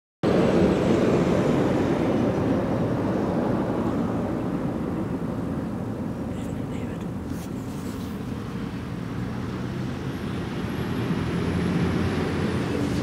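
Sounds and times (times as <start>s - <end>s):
lorry engine and tyres rumbling: 0.2s - 13.0s.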